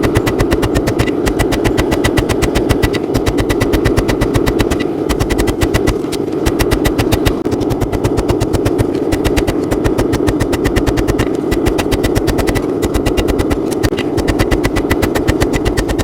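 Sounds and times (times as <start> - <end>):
steady drone: 0.0 - 16.0.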